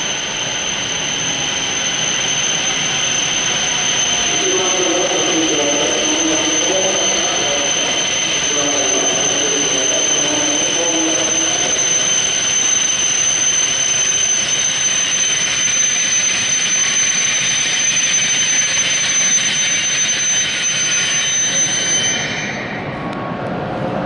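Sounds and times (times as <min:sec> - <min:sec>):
high-pitched train whine: 0:00.0 - 0:24.0
train running noise: 0:00.0 - 0:24.0.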